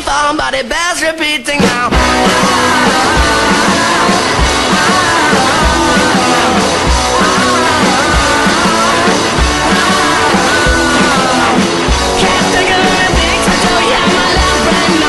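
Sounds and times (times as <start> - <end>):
rock song with singing: 0.0 - 15.0
steady drum beat: 1.5 - 15.0.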